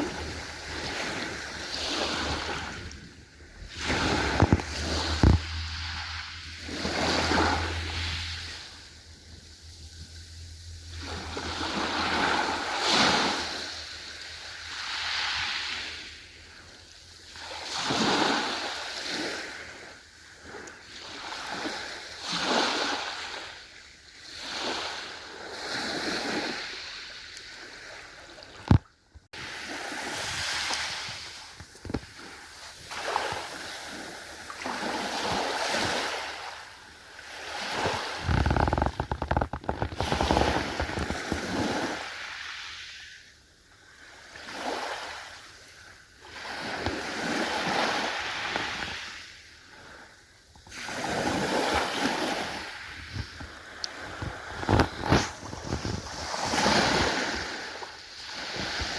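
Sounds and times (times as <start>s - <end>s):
ocean waves breaking: 0.0s - 28.8s, 29.4s - 43.1s, 43.9s - 50.0s, 50.7s - 58.9s.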